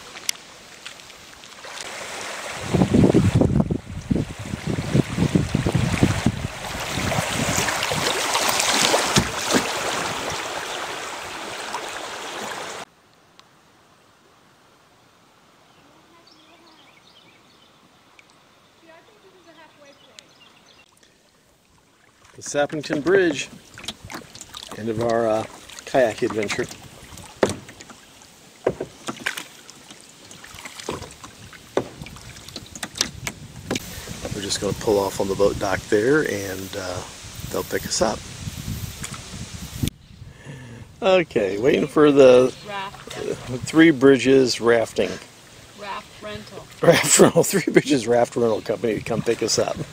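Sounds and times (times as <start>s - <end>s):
river water rushing around kayak: 0.0s - 13.0s, 14.1s - 39.9s, 41.0s - 49.9s.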